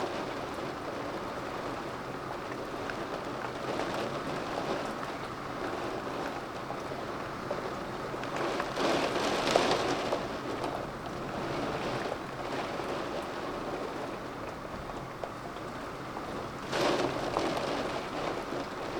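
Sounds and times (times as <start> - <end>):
storm rain and wind: 0.0 - 18.9.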